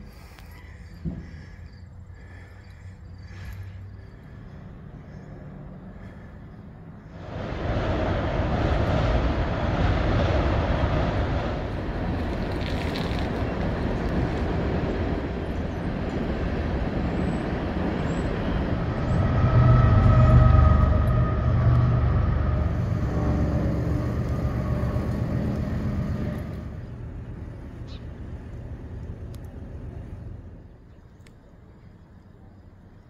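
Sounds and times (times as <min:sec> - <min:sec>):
vehicle passing: 0:02.2 - 0:30.8.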